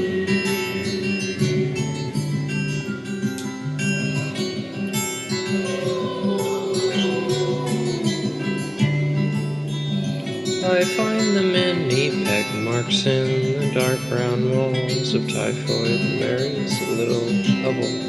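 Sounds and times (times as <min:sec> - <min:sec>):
acoustic guitar picking: 0:00.0 - 0:18.0
gliding melodic line: 0:00.0 - 0:18.0.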